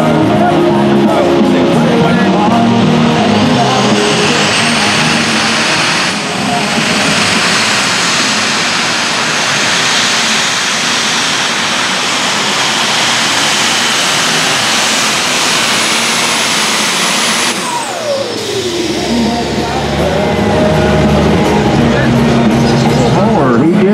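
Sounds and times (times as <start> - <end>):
high turbo whine: 0.0 - 23.9
tractor engine running under load: 0.0 - 23.9.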